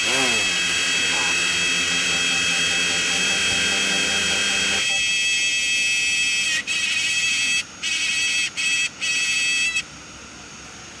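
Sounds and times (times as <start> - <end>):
high-pitched electronic buzzing whine: 0.1 - 9.9.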